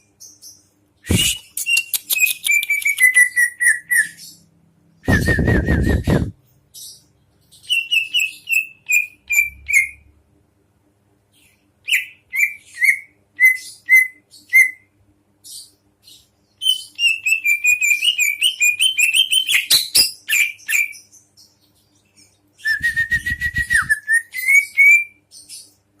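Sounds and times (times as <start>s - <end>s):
songbird chirping: 0.0s - 10.1s, 11.2s - 26.0s.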